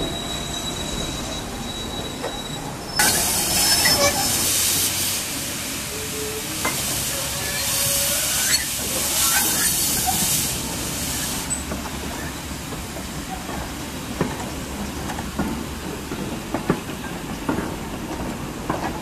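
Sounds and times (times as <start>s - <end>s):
steam locomotive hissing: 0.0s - 18.7s.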